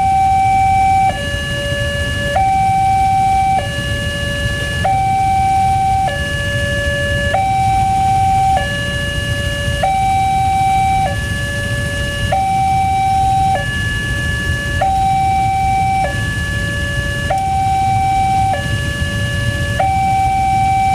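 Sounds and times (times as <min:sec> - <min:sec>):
two-tone level-crossing siren: 0:00.0 - 0:20.9.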